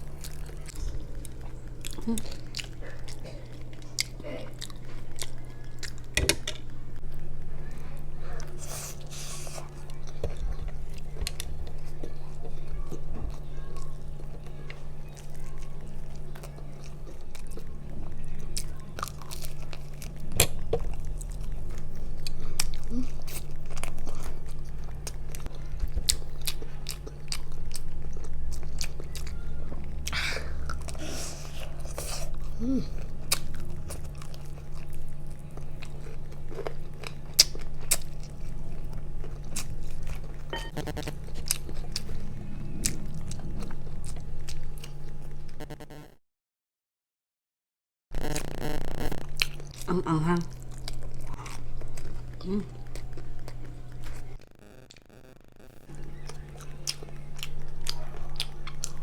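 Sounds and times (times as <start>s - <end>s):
chewing crispy fried chicken: 0.0s - 46.0s, 48.2s - 59.0s
low hum: 0.0s - 46.2s, 48.2s - 59.0s.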